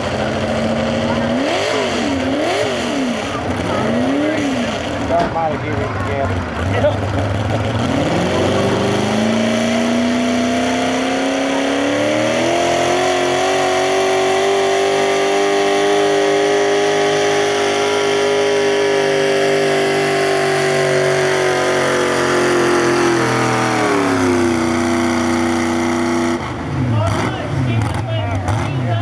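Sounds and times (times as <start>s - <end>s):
truck engine at high revs: 0.0s - 29.0s.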